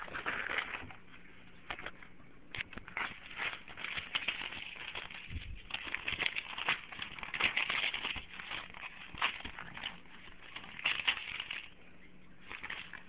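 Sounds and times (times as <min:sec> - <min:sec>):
paper crinkling and tearing: 0:00.0 - 0:13.0.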